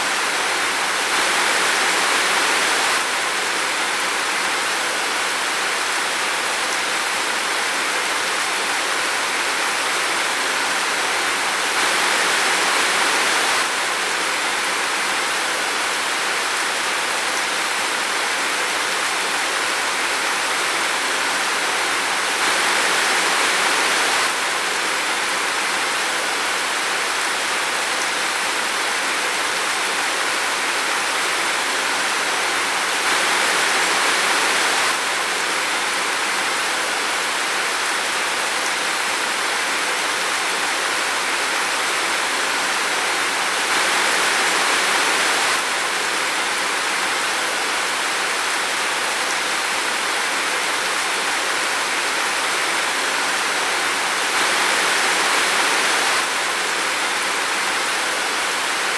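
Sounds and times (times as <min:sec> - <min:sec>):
heavy rain in a forest: 0:00.0 - 0:58.9.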